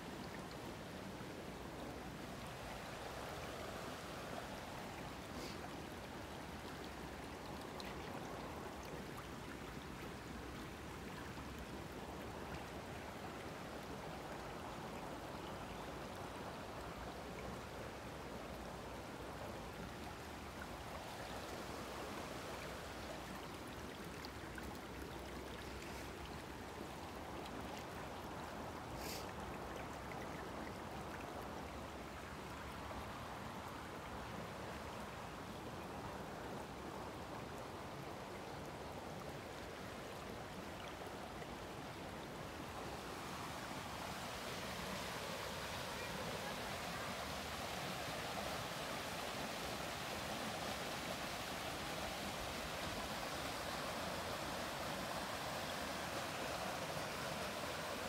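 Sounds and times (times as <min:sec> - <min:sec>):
stream trickling over pebbles: 0:00.0 - 0:58.0.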